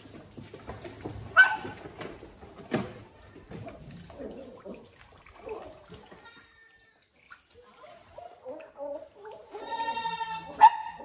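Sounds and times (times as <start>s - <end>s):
water trickling into pool: 0.0s - 11.0s.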